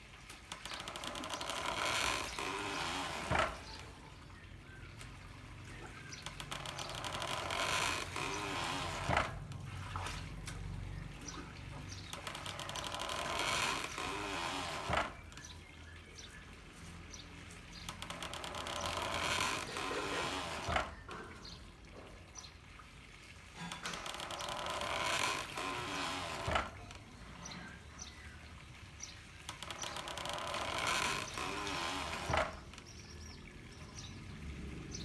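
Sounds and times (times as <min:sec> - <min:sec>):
water running and splashing: 0:00.0 - 0:35.0.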